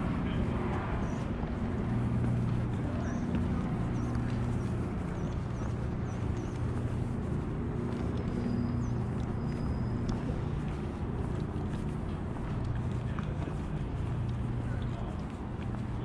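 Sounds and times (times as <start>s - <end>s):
city traffic hum: 0.0s - 16.0s
small birds chirping: 0.3s - 15.3s.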